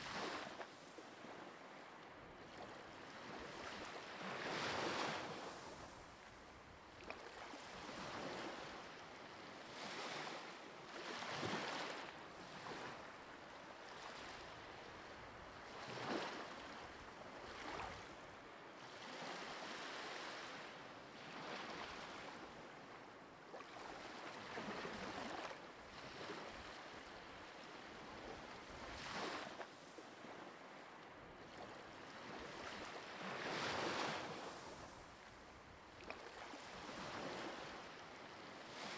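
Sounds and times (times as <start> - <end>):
ocean waves washing on shore: 0.0 - 22.9, 23.6 - 38.9.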